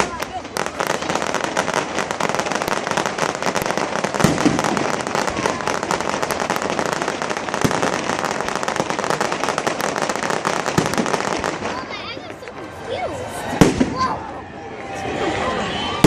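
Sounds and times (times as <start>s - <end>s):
deep fireworks booms: 0.0s - 12.6s, 13.4s - 14.3s
fireworks crackling: 0.0s - 16.0s.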